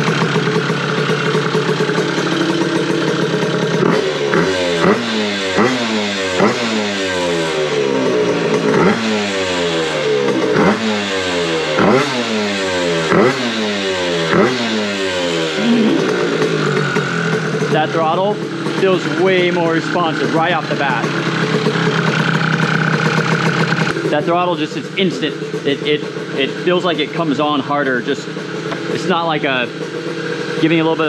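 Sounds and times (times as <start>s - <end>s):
scooter engine idling and revving: 0.0s - 31.0s.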